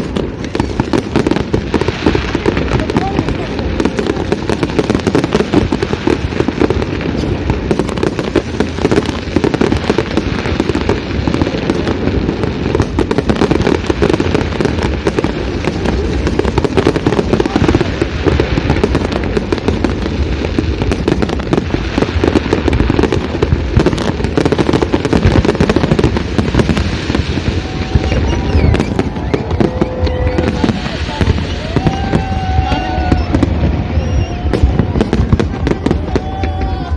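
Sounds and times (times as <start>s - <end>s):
fireworks bangs and crackles: 0.0s - 36.9s
fireworks whistling: 0.0s - 36.9s.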